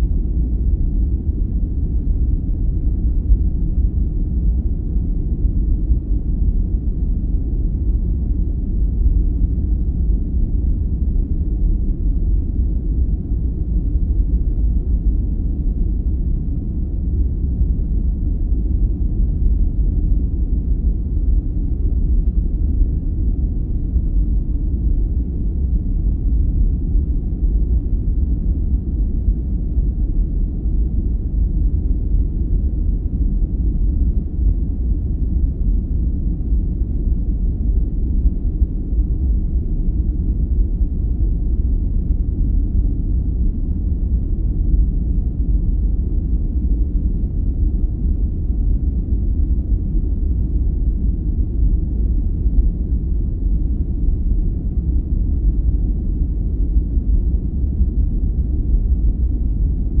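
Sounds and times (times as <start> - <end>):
deep even rumble noise: 0.0 - 60.0.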